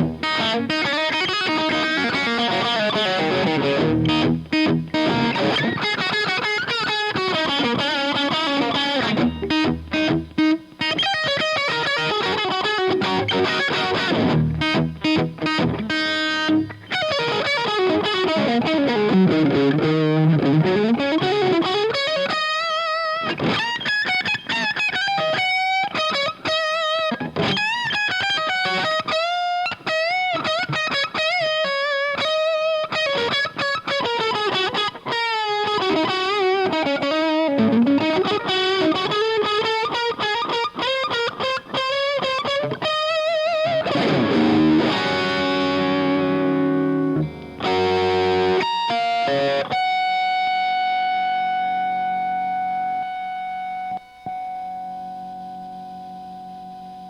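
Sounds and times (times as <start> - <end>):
electric guitar lead and chords: 0.0 - 57.0.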